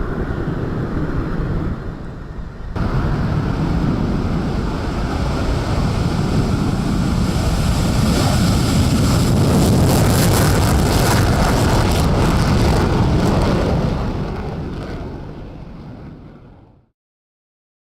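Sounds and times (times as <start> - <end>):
jet taking off: 0.0 - 16.9.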